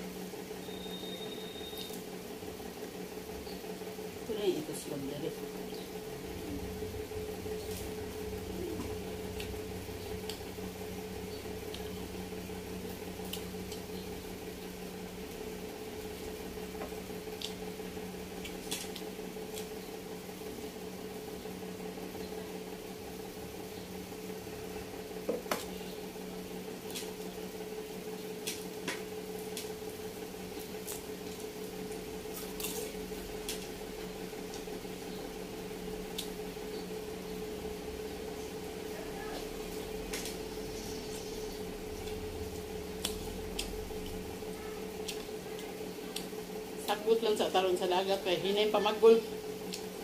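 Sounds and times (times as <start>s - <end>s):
appliance hum: 0.0s - 50.0s.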